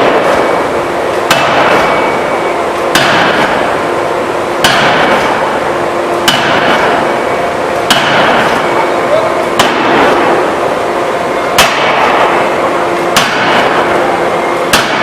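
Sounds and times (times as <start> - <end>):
forging hammer blows ringing: 0.0 - 15.0
steady machine noise: 0.0 - 15.0.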